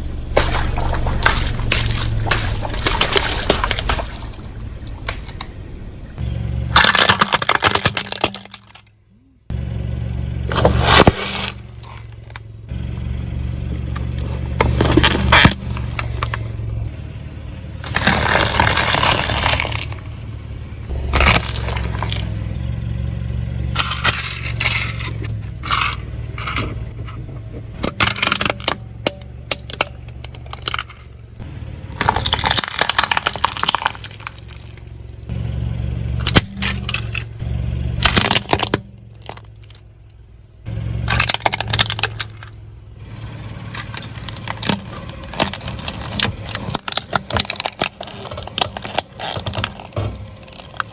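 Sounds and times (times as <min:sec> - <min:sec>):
tyre crushing brittle objects: 0:00.0 - 0:08.9, 0:10.5 - 0:12.4, 0:13.7 - 0:16.5, 0:17.8 - 0:22.5, 0:23.6 - 0:27.0, 0:27.7 - 0:35.1, 0:36.2 - 0:39.8, 0:41.0 - 0:50.9
car engine running: 0:00.0 - 0:50.9.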